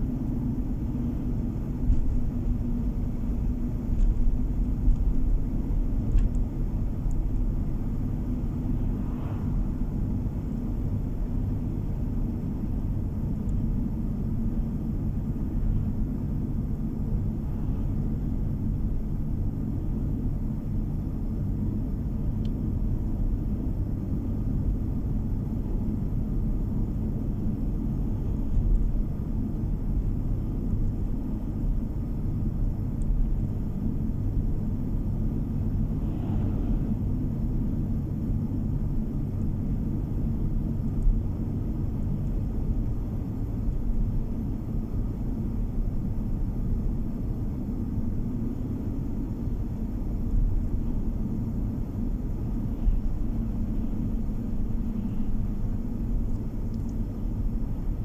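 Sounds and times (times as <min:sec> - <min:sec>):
car engine rumble: 0:00.0 - 0:58.0.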